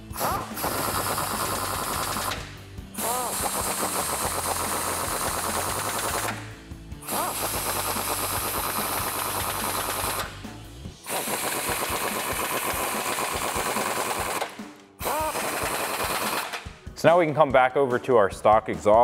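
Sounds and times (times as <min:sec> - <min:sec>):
impact wrench hammering: 0:00.0 - 0:10.3, 0:11.1 - 0:16.8.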